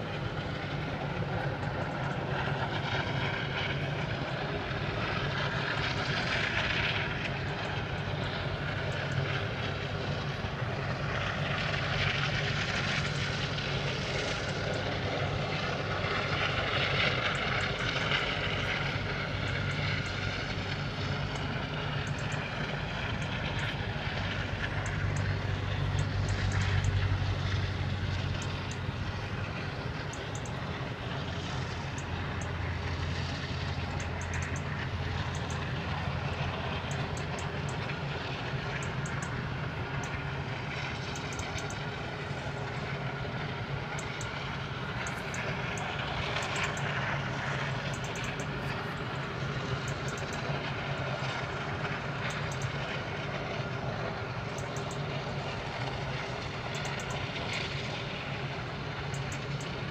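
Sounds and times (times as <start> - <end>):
continuous industrial rushing noise: 0.0 - 59.9
low hum: 0.0 - 59.9.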